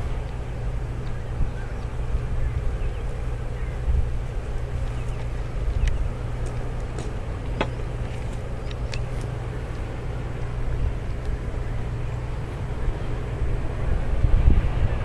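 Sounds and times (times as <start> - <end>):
freight cars rumbling: 0.0 - 15.0.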